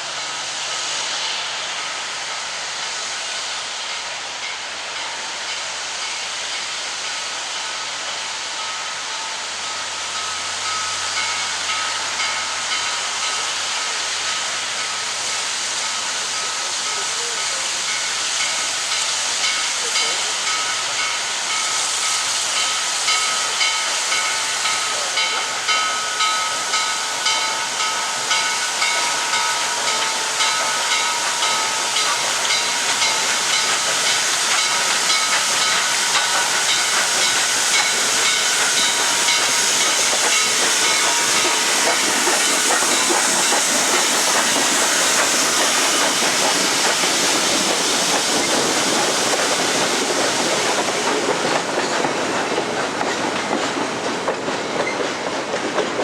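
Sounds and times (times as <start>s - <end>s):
steam locomotive chuffing: 0.0s - 56.0s
steam locomotive hissing: 0.0s - 56.0s.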